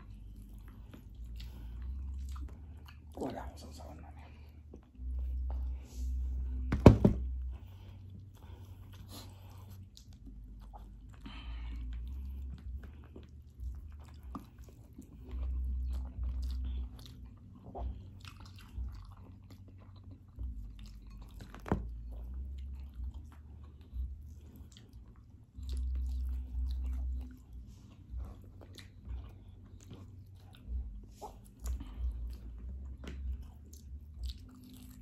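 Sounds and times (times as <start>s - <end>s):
chewing and biting food: 0.0s - 35.0s.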